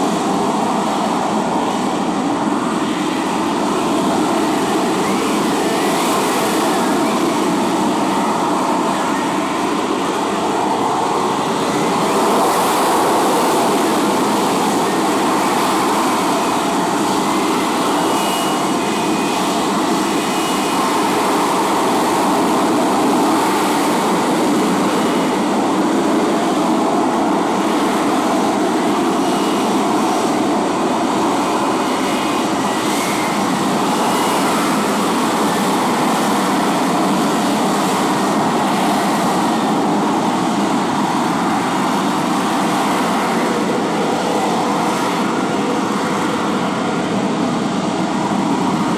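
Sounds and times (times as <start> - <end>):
jet engine running: 0.0 - 48.9.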